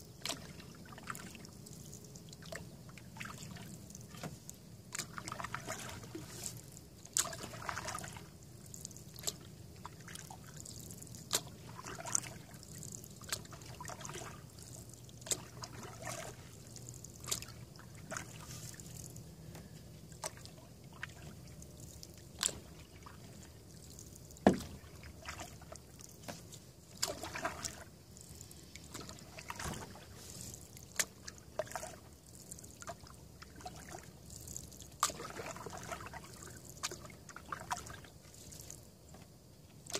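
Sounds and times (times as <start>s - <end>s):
water trickling off paddle: 0.0s - 39.9s
canoe paddle splashing: 0.2s - 38.8s.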